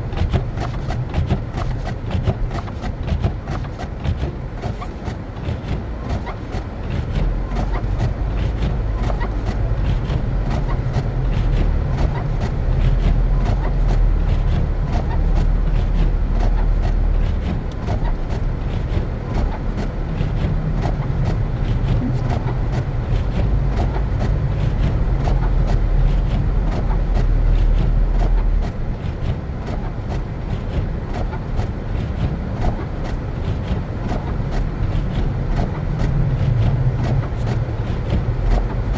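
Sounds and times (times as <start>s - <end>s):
tyres rumbling on snowy road: 0.0s - 38.9s.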